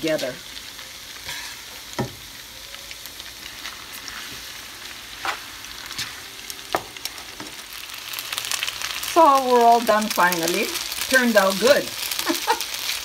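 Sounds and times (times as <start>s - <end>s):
stir-fry sizzling in a hot pan: 0.0s - 13.0s.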